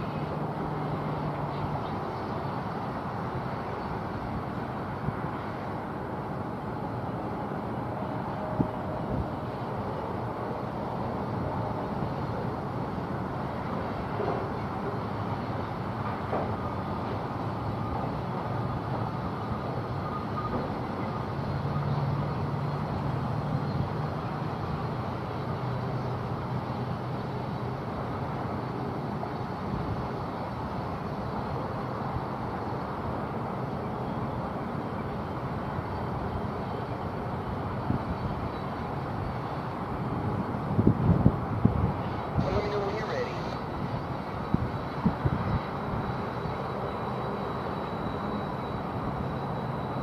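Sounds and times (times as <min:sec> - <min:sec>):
low engine drone: 0:00.0 - 0:50.0.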